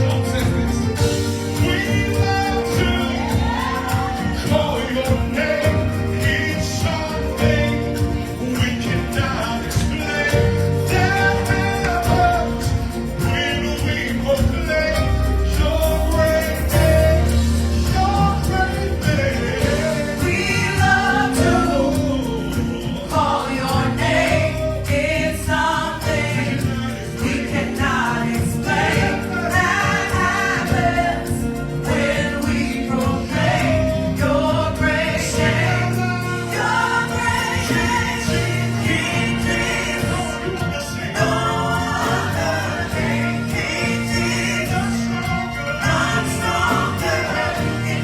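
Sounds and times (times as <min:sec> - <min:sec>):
band accompaniment: 0:00.0 - 0:48.0
gospel choir singing: 0:00.0 - 0:48.0
sustained bass line: 0:00.0 - 0:48.0.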